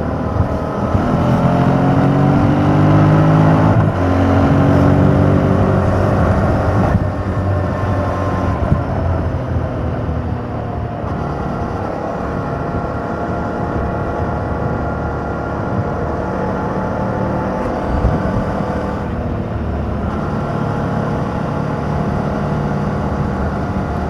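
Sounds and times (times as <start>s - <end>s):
motorcycle engine accelerating: 0.0s - 24.0s
wind rush: 0.0s - 24.0s.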